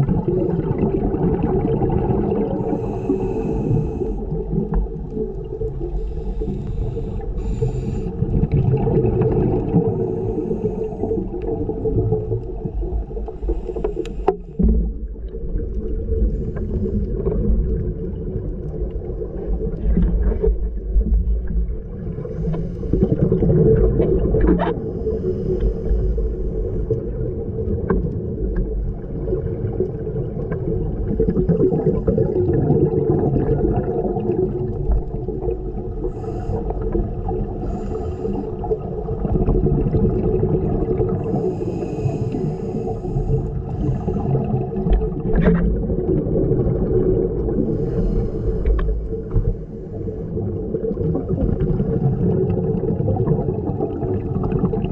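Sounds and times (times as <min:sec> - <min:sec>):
low rumble with droning hum: 0:00.0 - 0:54.9.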